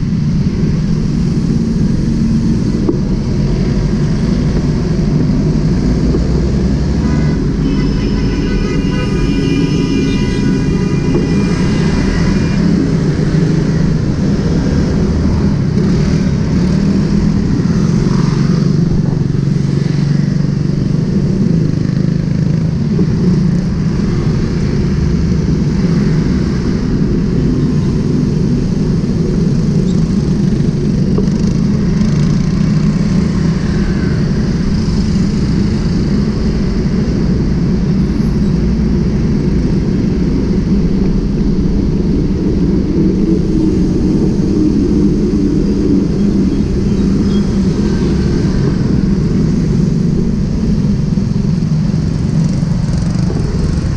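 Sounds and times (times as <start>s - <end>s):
road and wind noise: 0.0s - 53.9s
vehicles passing close by: 0.0s - 53.9s.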